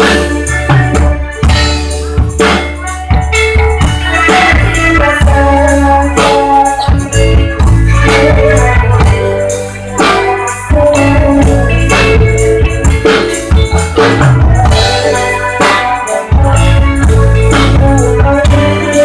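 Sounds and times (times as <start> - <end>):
instrumental music with drum beat: 0.0 - 19.0.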